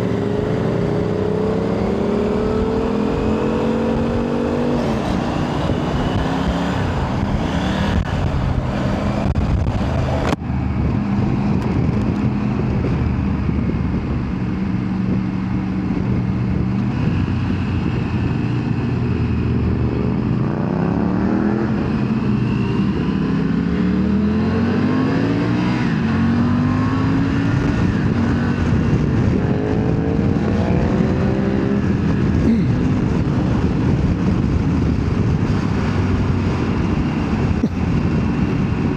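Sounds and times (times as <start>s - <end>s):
motorcycle engine accelerating: 0.0s - 38.9s
road and wind noise: 0.0s - 38.9s.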